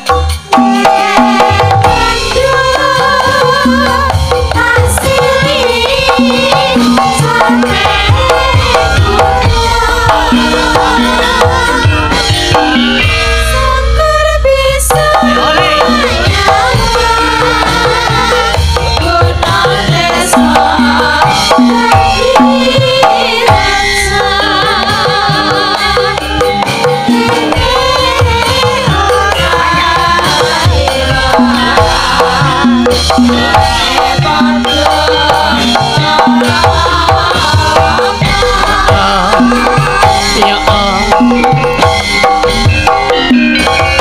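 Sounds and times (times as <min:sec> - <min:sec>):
gamelan music: 0:00.0 - 0:44.0
women singing with vibrato: 0:00.0 - 0:44.0.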